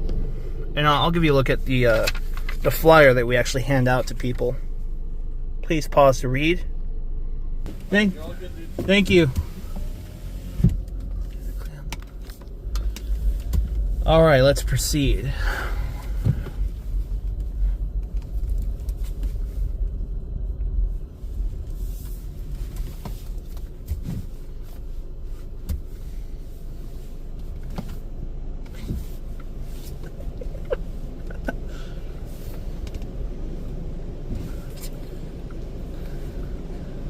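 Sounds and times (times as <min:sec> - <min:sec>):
car engine rumble from inside: 0:00.0 - 0:37.0.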